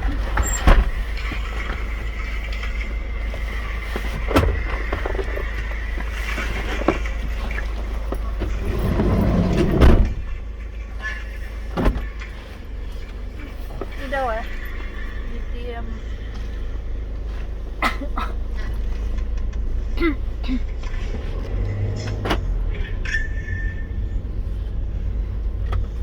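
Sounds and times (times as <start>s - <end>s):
low rumble inside car cabin: 0.0s - 26.0s.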